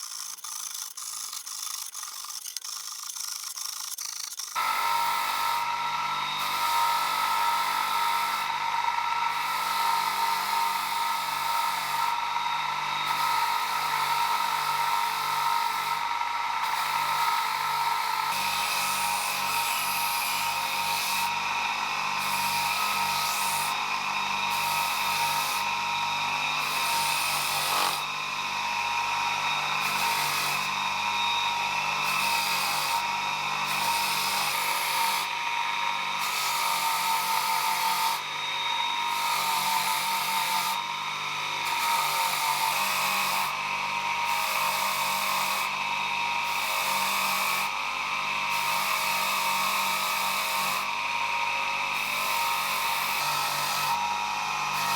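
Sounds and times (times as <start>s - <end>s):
small electric power tool on metal: 0.0s - 54.9s.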